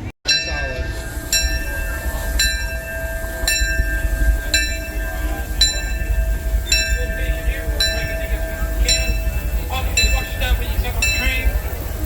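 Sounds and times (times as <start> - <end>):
locomotive bell ringing: 0.0 - 12.0
low train rumble: 0.0 - 12.0.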